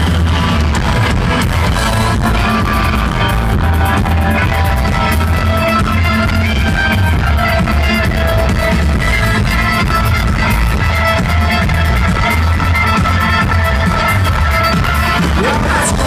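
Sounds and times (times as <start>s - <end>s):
bass guitar: 0.0s - 16.0s
drum kit beat: 0.0s - 16.0s
electric guitars: 0.0s - 16.0s.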